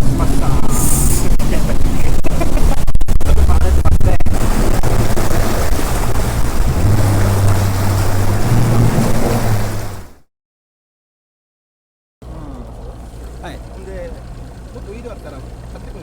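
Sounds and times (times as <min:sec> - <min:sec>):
boat engine hum: 0:00.0 - 0:10.2, 0:12.2 - 0:16.0
rushing wind and water: 0:00.0 - 0:10.2, 0:12.2 - 0:16.0.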